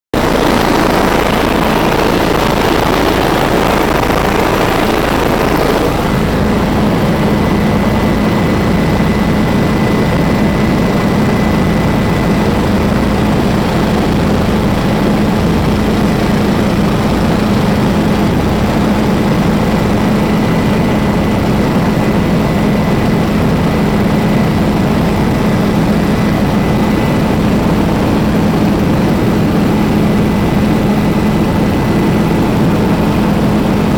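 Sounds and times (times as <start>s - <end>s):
helicopter engine and rotor noise: 0.1s - 33.9s.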